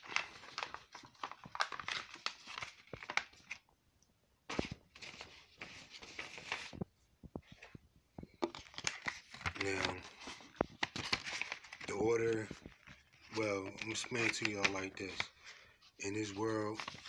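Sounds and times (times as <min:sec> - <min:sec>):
paper envelope rustling: 0:00.0 - 0:03.7, 0:04.5 - 0:06.8, 0:07.4 - 0:17.0.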